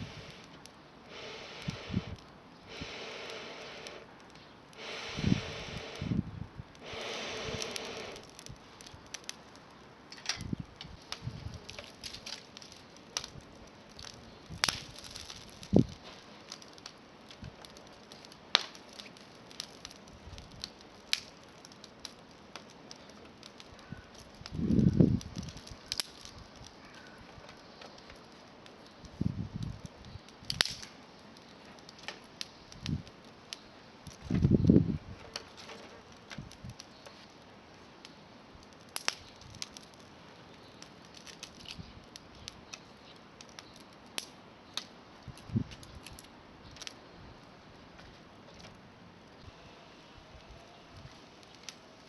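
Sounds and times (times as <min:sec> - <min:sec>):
campfire crackling and popping: 0:00.0 - 0:49.5, 0:50.2 - 0:52.0.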